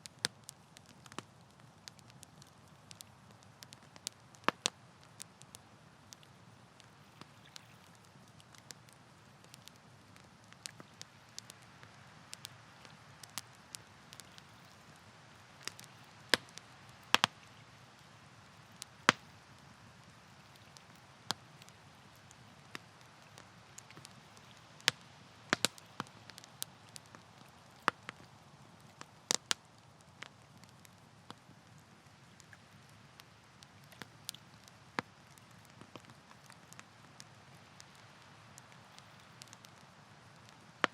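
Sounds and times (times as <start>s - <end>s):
campfire crackling and popping: 0.0s - 40.9s
soft low hiss: 0.0s - 40.9s.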